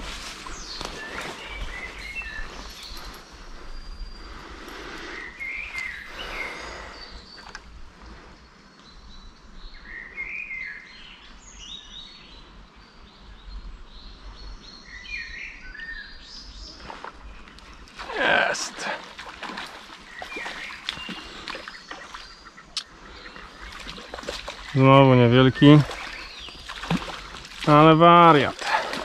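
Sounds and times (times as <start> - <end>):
rumbling outdoor background: 0.0 - 29.0
songbirds warbling: 0.0 - 29.0.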